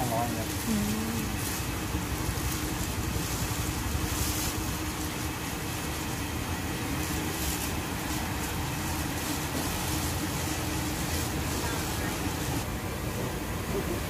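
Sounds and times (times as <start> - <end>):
soft rustling: 0.0 - 12.6
faint constant hum: 0.0 - 14.0
low rumbling background noise: 0.0 - 14.0.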